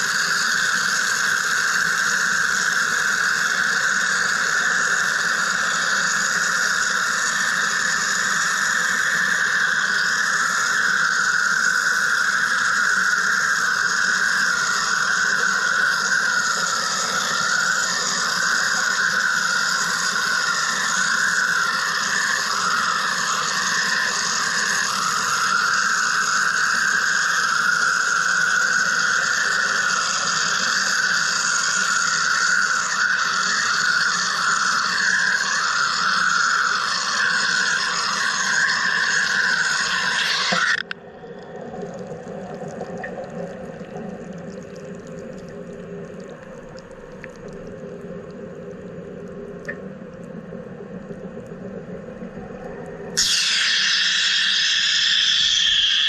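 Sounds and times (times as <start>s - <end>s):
machine high-pitched whine: 0.0s - 56.0s.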